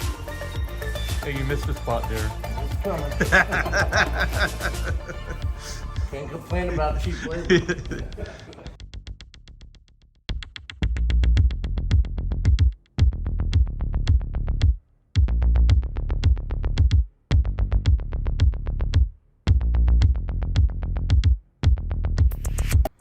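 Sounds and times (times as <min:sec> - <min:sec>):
drum-machine beat: 0:00.0 - 0:08.8, 0:10.3 - 0:23.0
heavy bass: 0:00.0 - 0:23.0.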